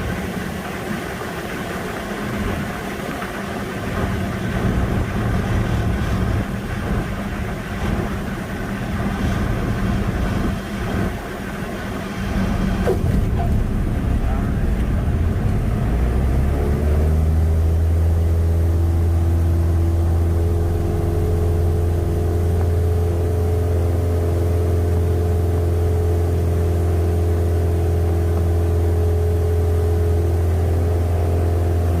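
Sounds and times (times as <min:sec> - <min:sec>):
airplane piston engine droning: 0:00.0 - 0:32.0.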